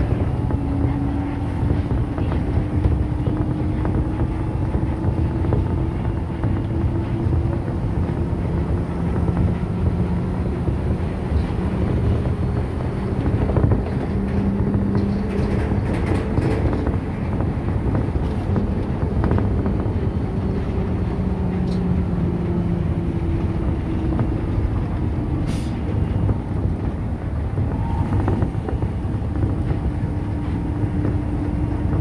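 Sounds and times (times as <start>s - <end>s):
tram rumbling on guideway: 0.0s - 32.0s.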